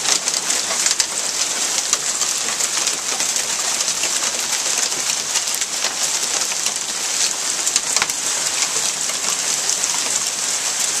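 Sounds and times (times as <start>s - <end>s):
hailstones clicking on ground: 0.0s - 11.0s
heavy rain hissing: 0.0s - 11.0s.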